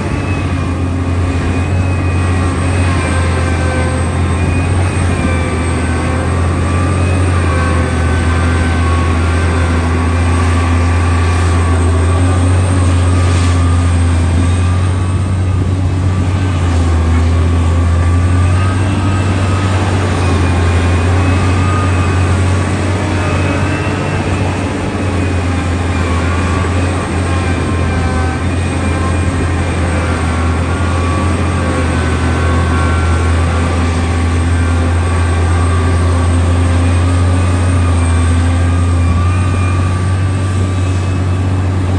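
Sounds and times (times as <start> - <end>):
excavator diesel engine drone: 0.0 - 41.9.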